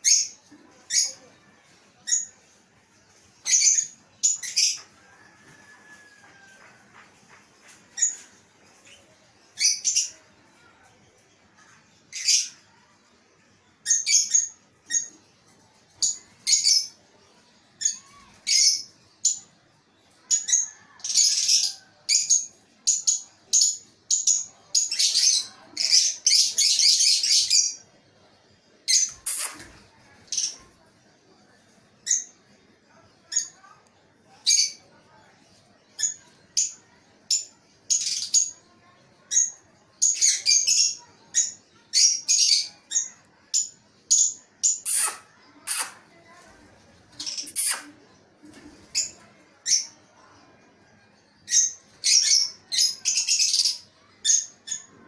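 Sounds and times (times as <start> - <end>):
birds chattering: 0.0 - 55.0
birds chirping: 0.0 - 55.0.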